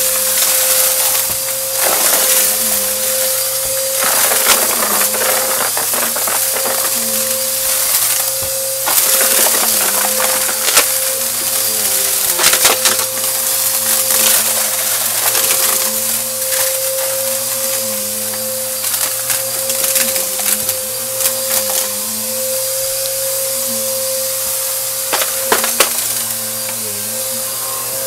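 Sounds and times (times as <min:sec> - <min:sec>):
debris crackling being sucked up: 0:00.0 - 0:28.0
vacuum cleaner running: 0:00.0 - 0:28.0.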